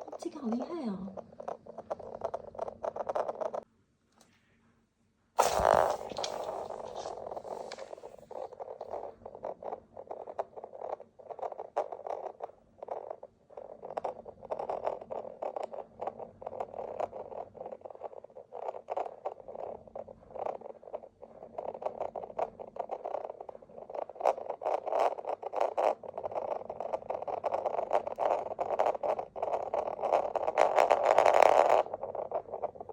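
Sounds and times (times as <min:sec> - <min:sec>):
tops spinning on hard surface: 0:00.0 - 0:03.6, 0:05.4 - 0:32.9.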